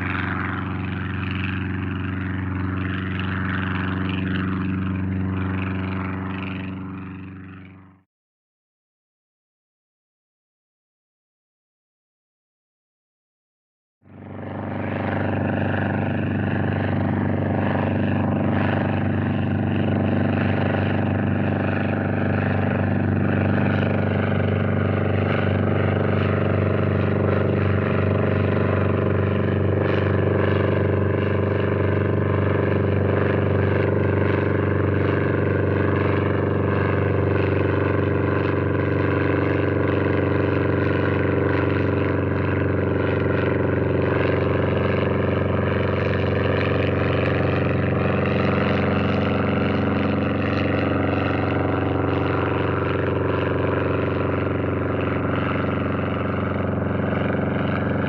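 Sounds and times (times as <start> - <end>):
propeller plane engine droning: 0.0 - 8.1, 14.0 - 58.0.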